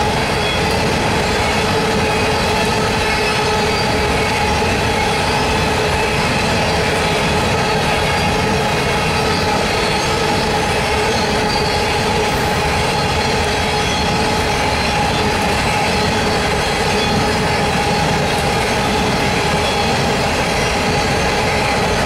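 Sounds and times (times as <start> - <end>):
high wheel squeal: 0.0 - 22.0
train cars rumbling on steel wheels: 0.0 - 22.0.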